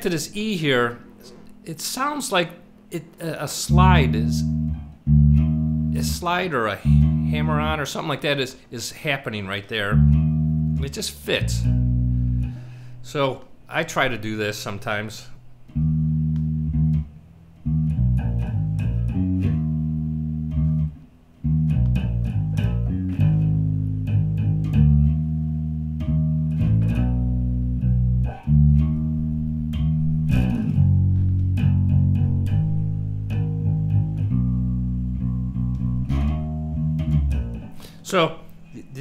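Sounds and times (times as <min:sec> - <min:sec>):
electric bass guitar riff: 0:00.0 - 0:08.0, 0:09.8 - 0:13.0, 0:15.5 - 0:39.0.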